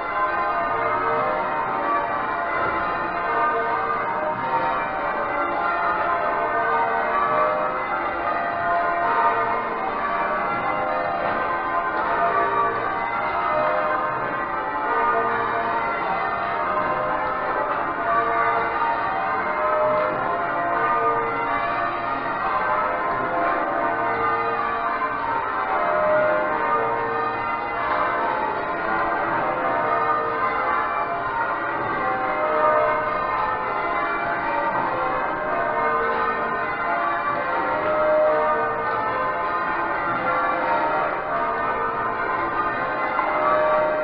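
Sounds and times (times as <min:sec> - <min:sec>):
church bells change ringing: 0:00.0 - 0:44.0.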